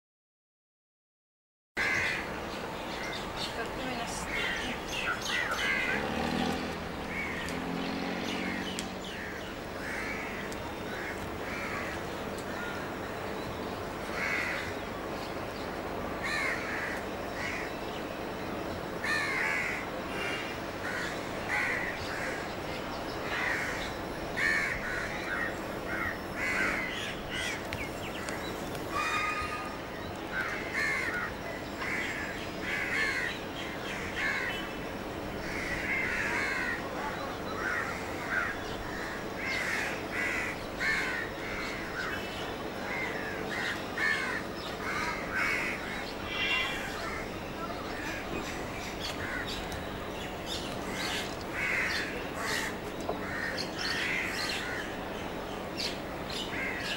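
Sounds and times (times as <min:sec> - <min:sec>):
flock of birds calling: 0:01.8 - 0:56.9
low background noise: 0:01.8 - 0:56.9.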